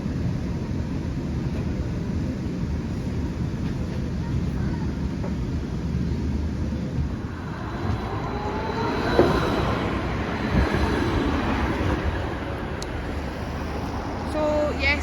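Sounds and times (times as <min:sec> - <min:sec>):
tram low rumble: 0:00.0 - 0:15.0.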